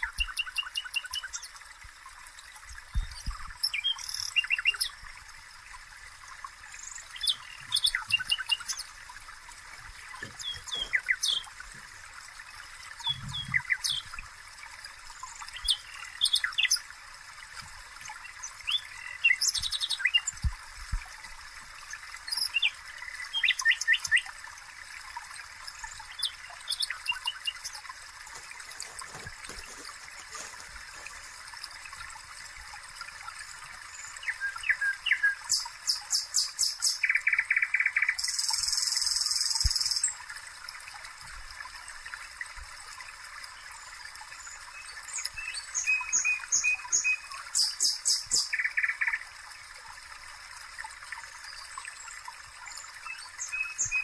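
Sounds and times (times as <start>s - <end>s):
songbird chirps and trills: 0.0s - 20.6s, 21.2s - 40.3s, 43.0s - 49.5s, 51.1s - 54.0s.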